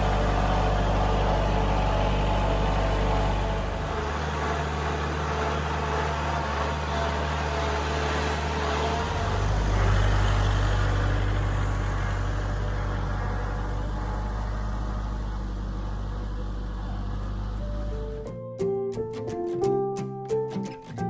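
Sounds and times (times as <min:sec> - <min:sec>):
tractor diesel engine running: 0:00.0 - 0:18.3.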